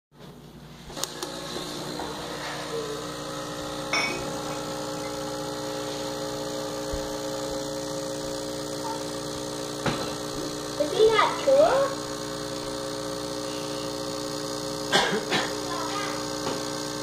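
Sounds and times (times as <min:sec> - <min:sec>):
espresso machine pump buzzing: 0:00.3 - 0:17.0.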